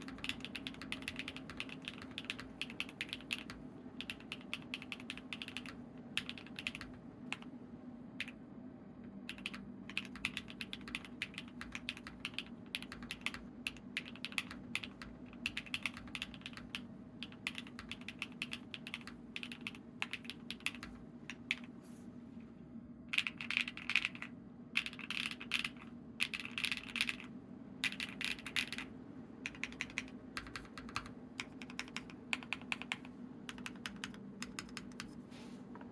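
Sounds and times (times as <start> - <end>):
mechanical keyboard typing: 0.0 - 7.5, 9.2 - 21.7, 23.1 - 35.2.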